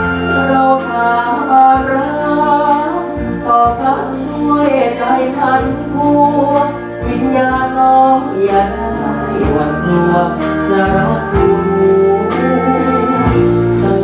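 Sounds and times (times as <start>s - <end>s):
man singing into a microphone: 0.0s - 14.0s
plucked guitar backing: 0.0s - 14.0s.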